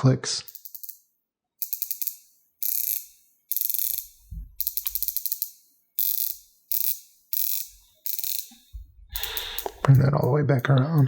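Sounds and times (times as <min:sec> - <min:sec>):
watch bezel ratcheting clicks: 0:00.4 - 0:11.0.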